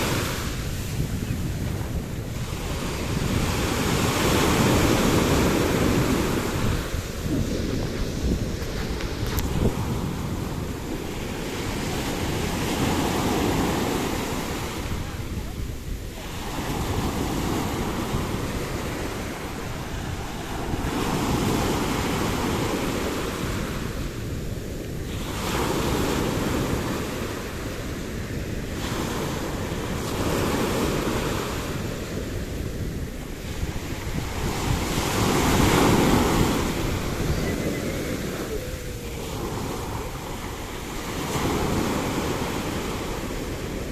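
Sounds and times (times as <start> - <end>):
sea waves washing ashore: 0.0 - 43.9
wind on microphone: 0.0 - 43.9.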